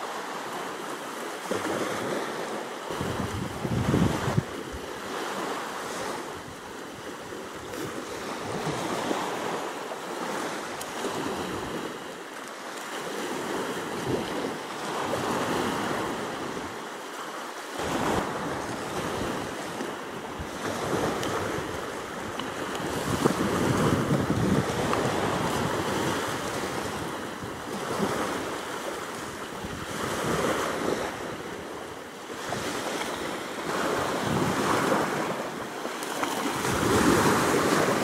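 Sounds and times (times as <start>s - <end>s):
small waves on sandy shore: 0.0s - 38.0s.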